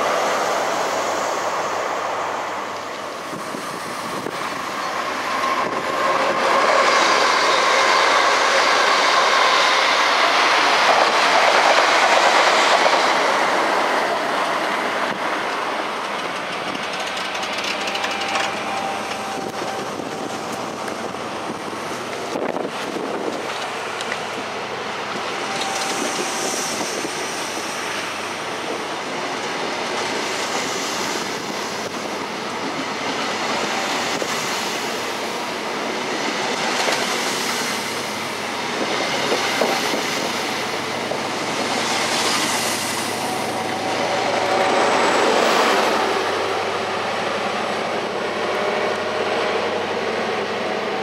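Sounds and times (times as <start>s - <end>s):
train wheels clattering on rails: 2.6s - 24.5s, 25.1s - 46.8s.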